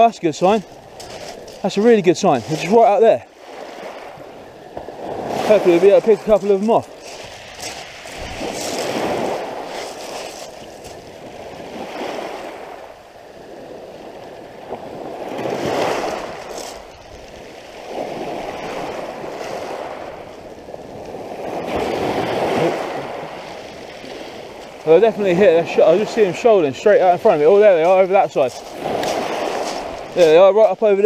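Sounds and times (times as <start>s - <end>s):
sea waves breaking: 0.0s - 31.0s.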